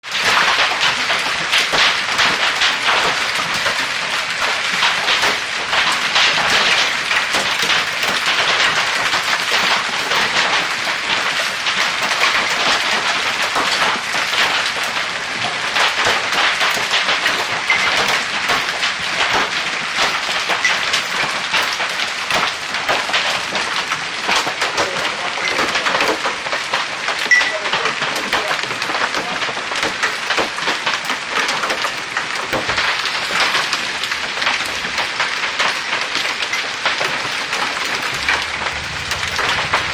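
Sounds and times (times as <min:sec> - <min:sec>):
hail and rain pelting down: 0:00.0 - 0:39.9.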